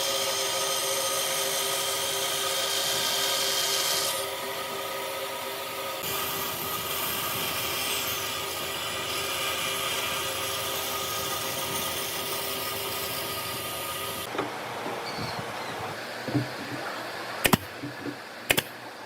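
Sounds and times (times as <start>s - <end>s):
power tool running on wood: 0.0s - 18.7s.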